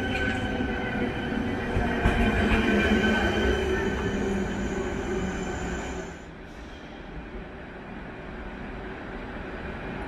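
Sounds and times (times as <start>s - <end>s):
electric train rumbling past: 0.0s - 10.0s.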